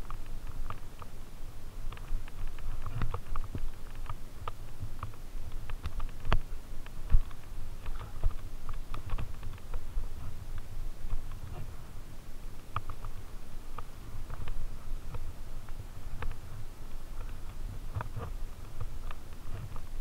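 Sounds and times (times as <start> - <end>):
bike clicks and rattles: 0.0 - 1.2, 1.8 - 11.8, 12.4 - 20.0.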